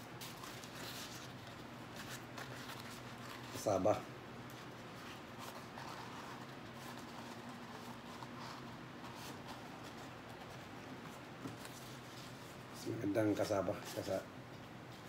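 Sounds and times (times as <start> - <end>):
leaves rustling and crinkling: 0.0 - 14.2
faint steady hum: 0.0 - 15.0.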